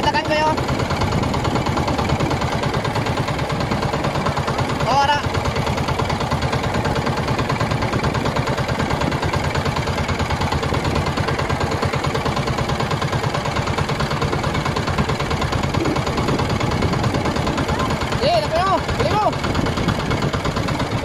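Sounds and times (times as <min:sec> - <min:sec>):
boat motor pulsing: 0:00.0 - 0:21.0.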